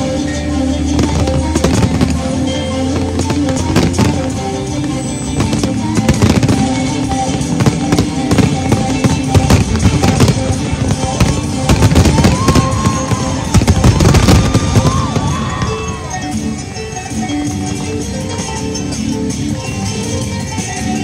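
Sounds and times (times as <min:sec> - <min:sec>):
fireworks bursting: 0:00.0 - 0:17.9
show music: 0:00.0 - 0:21.0.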